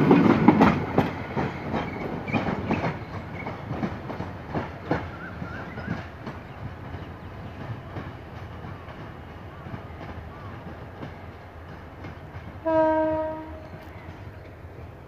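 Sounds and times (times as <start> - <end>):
low train rumble: 0.0 - 15.0
train clacking over rail joints: 0.0 - 15.0.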